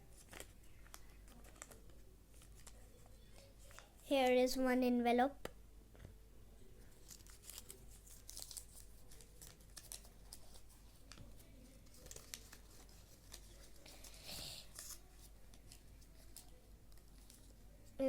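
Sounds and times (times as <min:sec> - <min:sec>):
paper envelopes rustling: 0:00.0 - 0:03.9, 0:06.9 - 0:17.6.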